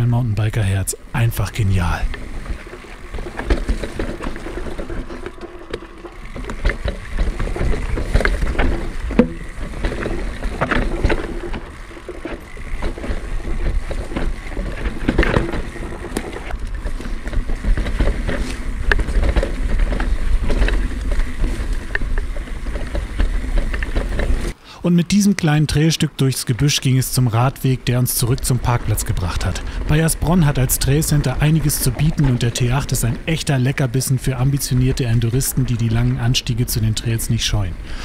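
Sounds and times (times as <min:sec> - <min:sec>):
bike tyres rumbling on rock: 0:01.2 - 0:24.6, 0:25.8 - 0:38.0
wheels knocking on stones: 0:01.8 - 0:24.6, 0:26.3 - 0:37.7.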